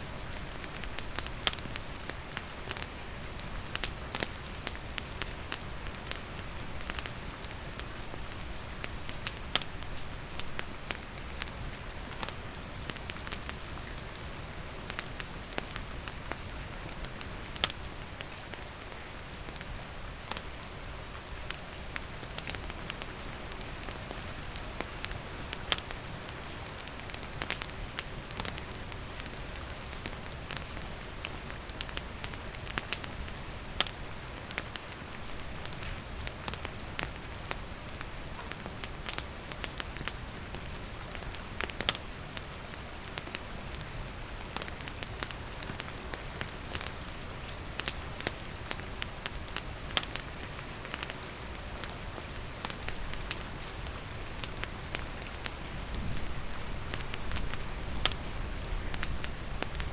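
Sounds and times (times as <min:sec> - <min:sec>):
steady rain falling: 0:00.0 - 0:59.9
campfire crackling and popping: 0:00.1 - 0:59.9.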